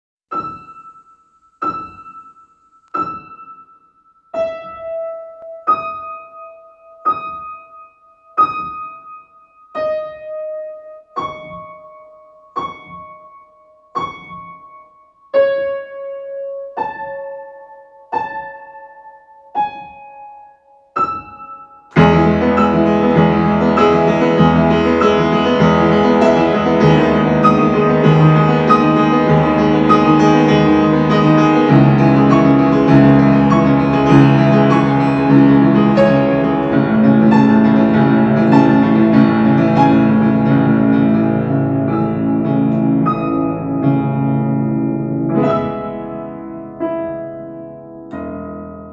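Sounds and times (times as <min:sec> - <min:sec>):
piano arrangement with bass: 0:00.3 - 0:48.9
slow soft piano: 0:00.3 - 0:48.9.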